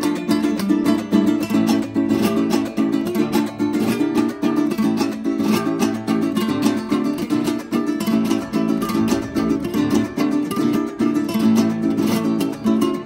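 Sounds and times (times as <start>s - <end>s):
fast plucked string melody: 0.0s - 13.0s
strummed string rhythm: 0.0s - 13.0s.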